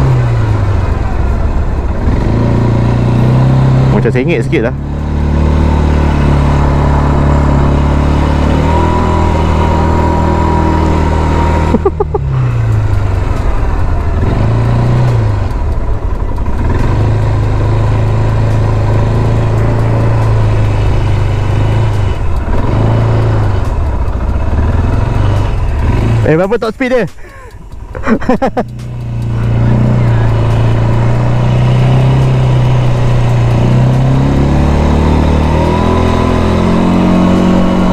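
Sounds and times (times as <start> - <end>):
atv engine running: 0.0 - 37.9.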